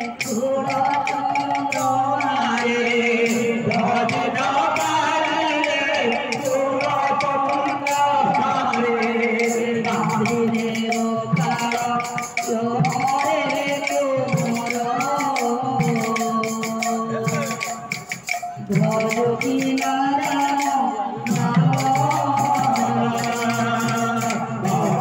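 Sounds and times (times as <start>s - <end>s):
drum: 0.0s - 25.0s
jingling percussion: 0.0s - 25.0s
woman singing into microphone: 0.0s - 25.0s.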